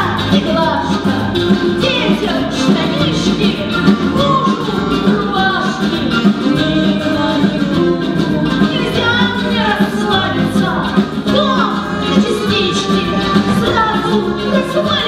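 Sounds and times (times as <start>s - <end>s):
band music: 0.0s - 15.0s
person singing: 0.0s - 15.0s.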